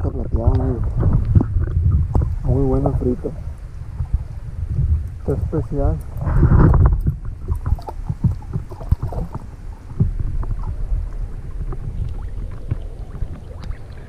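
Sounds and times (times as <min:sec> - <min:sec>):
low rumble: 0:00.0 - 0:14.0
water sloshing: 0:00.0 - 0:14.0.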